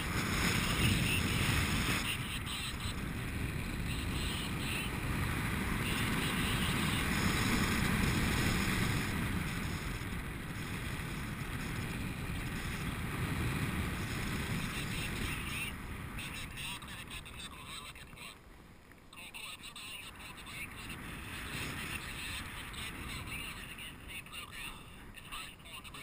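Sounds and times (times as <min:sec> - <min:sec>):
wind noise on microphone: 0:00.0 - 0:17.7, 0:20.1 - 0:25.2.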